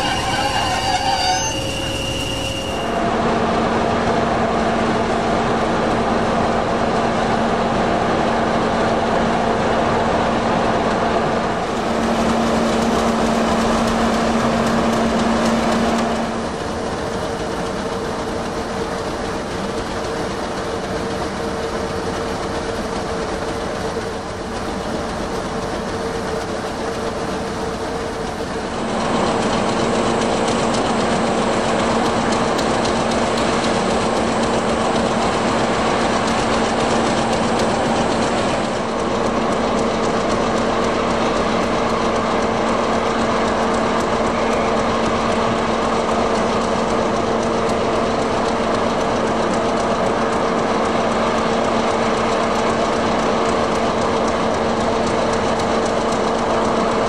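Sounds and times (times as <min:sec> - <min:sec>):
diesel locomotive engine drone: 0:00.0 - 0:57.0
train on rails: 0:00.0 - 0:57.0.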